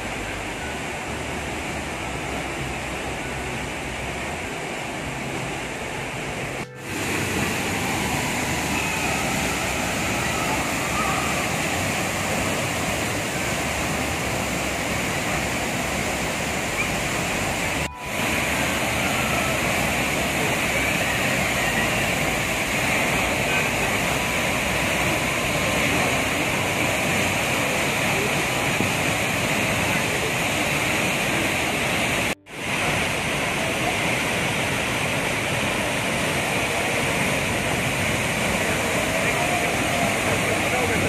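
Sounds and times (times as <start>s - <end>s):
waterfall rushing into pool: 0.0s - 41.0s.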